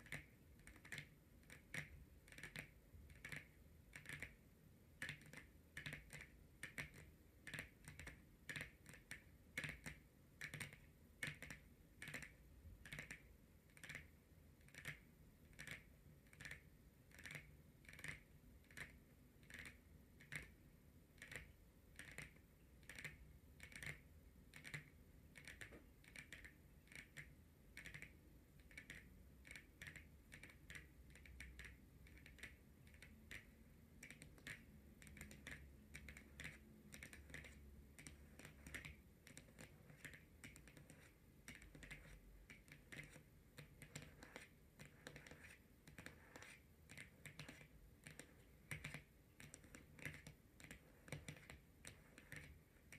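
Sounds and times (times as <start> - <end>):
fingernails tapping on a card: 0.0 - 52.9.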